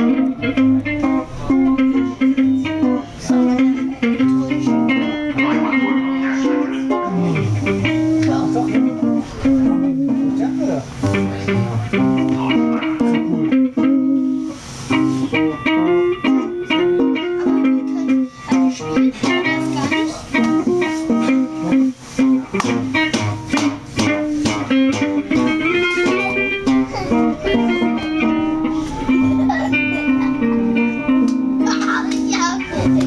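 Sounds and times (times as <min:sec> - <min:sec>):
guitar plucked notes: 0:00.0 - 0:33.0.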